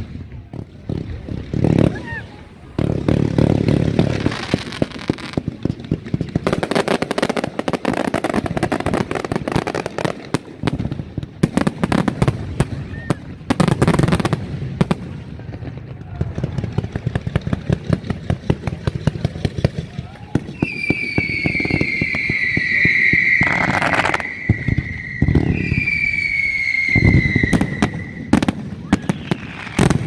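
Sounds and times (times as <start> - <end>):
firecracker bangs: 0.0 - 30.0
heavy firework blasts: 0.0 - 30.0.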